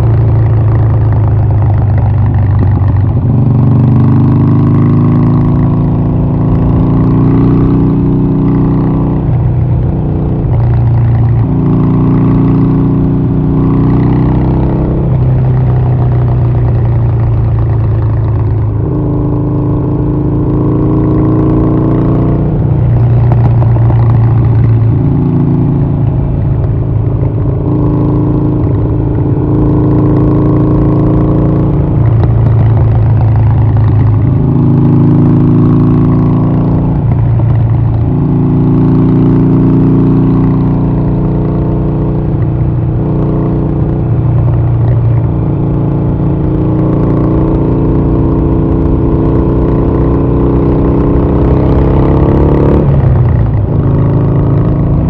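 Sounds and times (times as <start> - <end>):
motorcycle engine running loud: 0.0 - 55.0.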